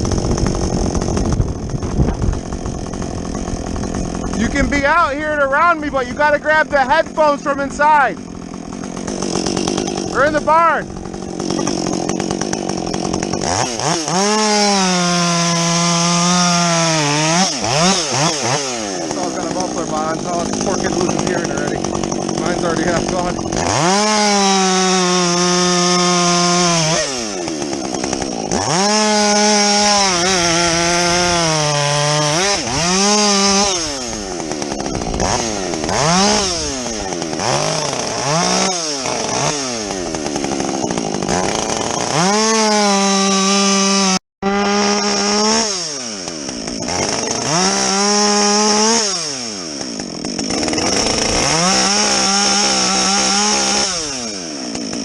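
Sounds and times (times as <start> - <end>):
chainsaw revving through logs: 0.0 - 55.0.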